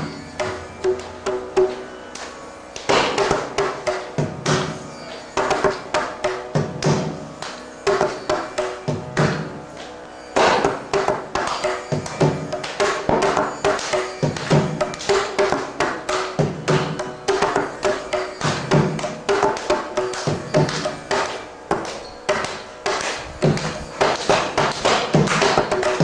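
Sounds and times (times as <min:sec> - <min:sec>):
hand drum strokes: 0:00.0 - 0:26.0.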